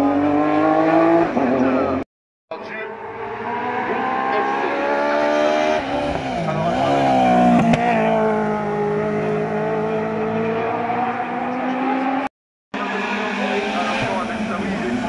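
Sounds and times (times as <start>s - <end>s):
race car engine accelerating: 2.9s - 15.0s.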